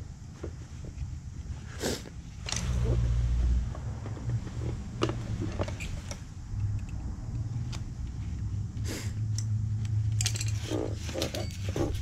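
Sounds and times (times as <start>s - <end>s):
steady low rumble: 1.1s - 11.0s.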